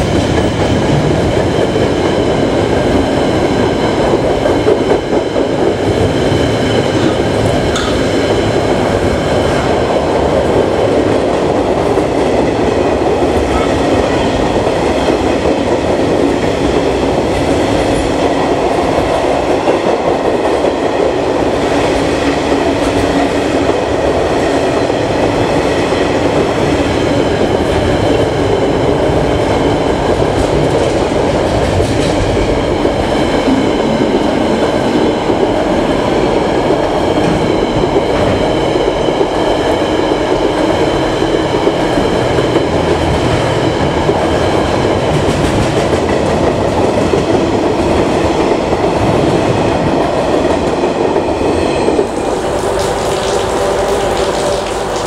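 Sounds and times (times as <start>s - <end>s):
train wagons rumbling and clattering: 0.0s - 55.0s.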